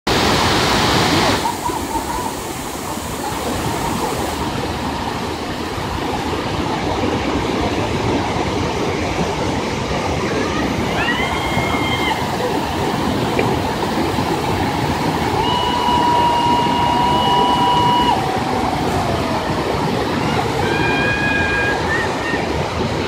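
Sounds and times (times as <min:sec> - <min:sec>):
river rapids rushing: 0:00.1 - 0:23.0.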